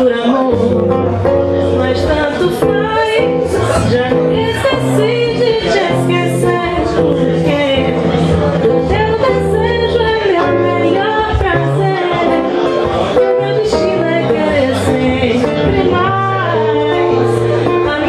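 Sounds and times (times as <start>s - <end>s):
acoustic guitar: 0.0s - 18.0s
woman singing: 0.0s - 18.0s.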